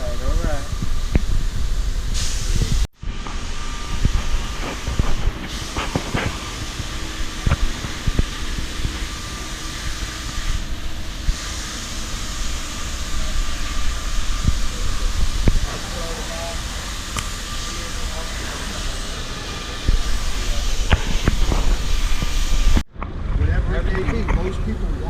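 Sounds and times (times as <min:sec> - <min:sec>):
machine hum with hiss: 0:00.0 - 0:22.8.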